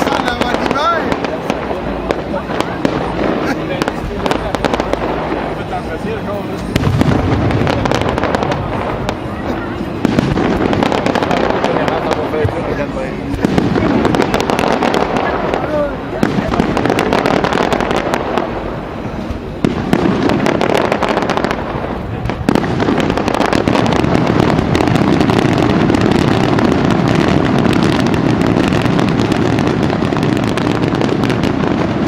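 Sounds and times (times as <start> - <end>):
fireworks bangs and crackling: 0.0 - 32.0.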